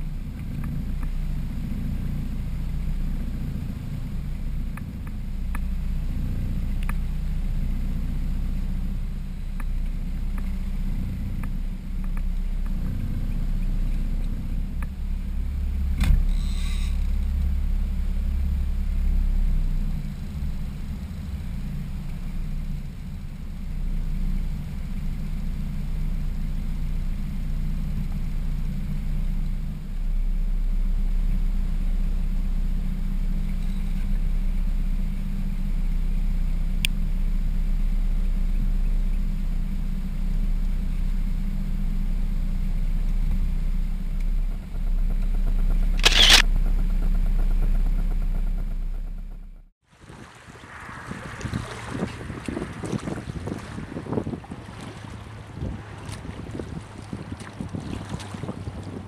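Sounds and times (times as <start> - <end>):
boat motor humming: 0.0 - 59.0.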